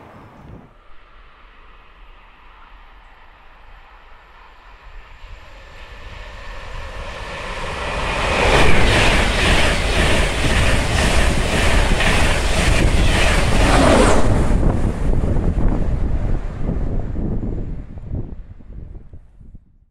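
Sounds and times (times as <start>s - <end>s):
train rushing past: 0.0s - 18.3s.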